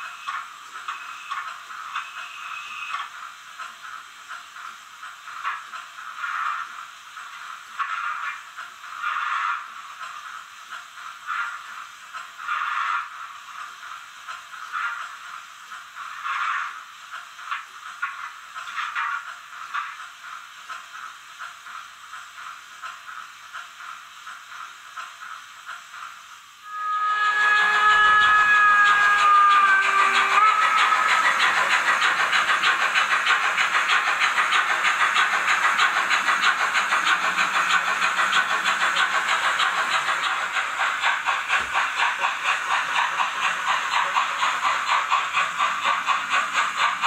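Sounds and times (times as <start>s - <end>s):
model steam locomotive chuffs: 0.0s - 47.0s.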